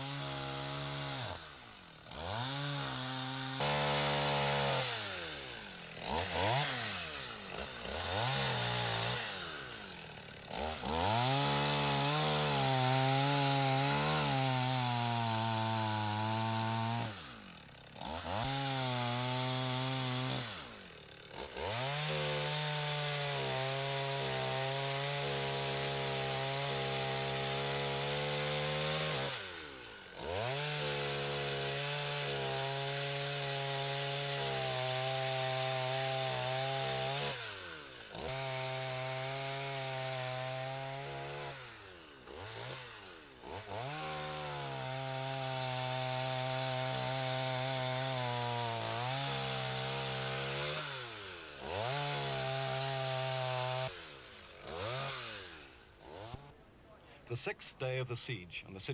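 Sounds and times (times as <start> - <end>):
chainsaw cutting logs: 0.0 - 58.9.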